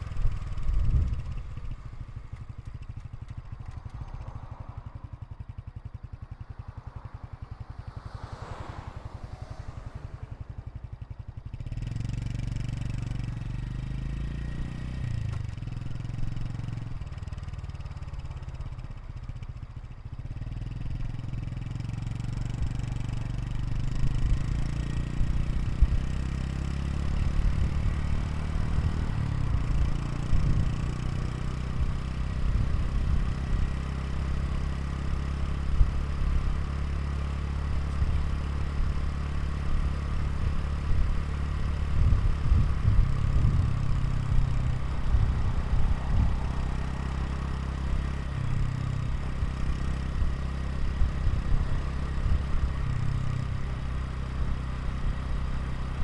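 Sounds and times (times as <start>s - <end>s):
motorcycle engine running at low revs: 0.0s - 56.0s.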